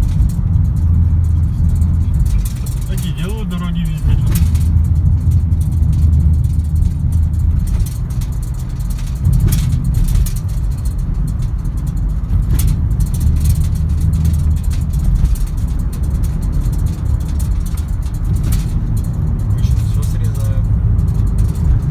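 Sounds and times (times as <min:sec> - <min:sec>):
car tyres and engine rumbling: 0:00.0 - 0:21.9.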